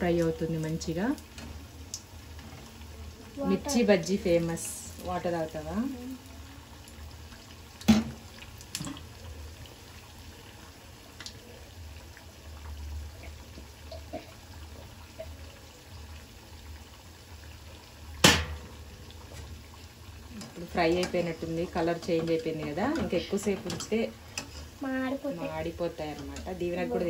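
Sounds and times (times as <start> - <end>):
food deep-frying in hot oil: 0.0 - 27.0.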